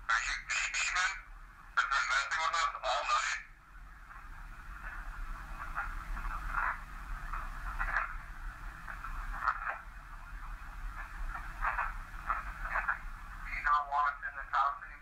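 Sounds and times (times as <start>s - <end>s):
low steady hum: 0.0s - 15.0s
radio-like static: 0.0s - 15.0s.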